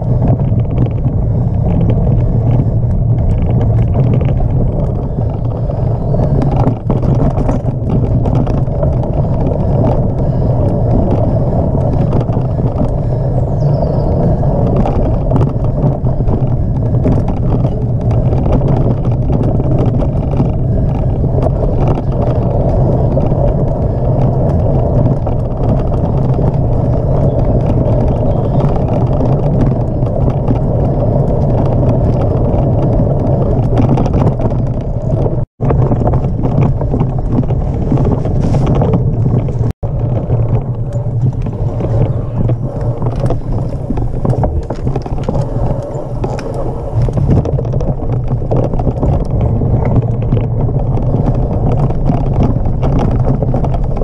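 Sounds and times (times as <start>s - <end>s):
bike rattling over bumps: 0.0s - 54.0s
tyres rolling on dirt: 0.0s - 54.0s
wind buffeting microphone: 0.0s - 54.0s.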